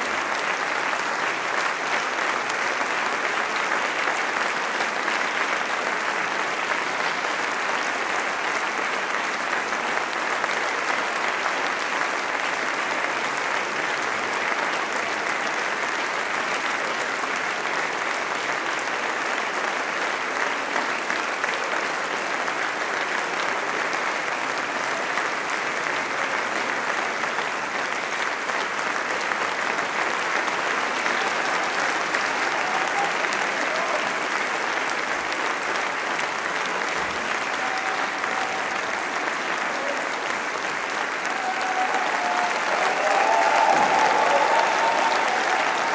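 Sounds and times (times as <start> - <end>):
audience applauding: 0.0 - 45.9.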